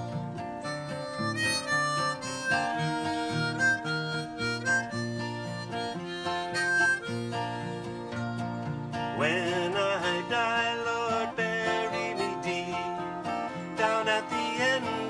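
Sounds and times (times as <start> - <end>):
acoustic guitar accompaniment: 0.0 - 15.0
harmonica playing a melody: 0.0 - 15.0.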